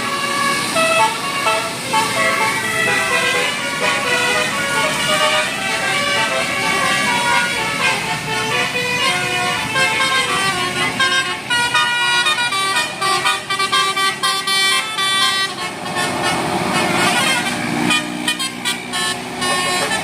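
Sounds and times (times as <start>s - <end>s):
bus musical horn tooting tune: 0.0s - 20.0s.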